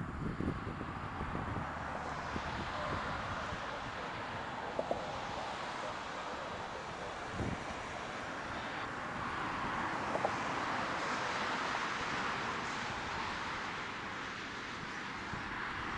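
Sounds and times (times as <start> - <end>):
road traffic hiss: 0.0 - 15.9.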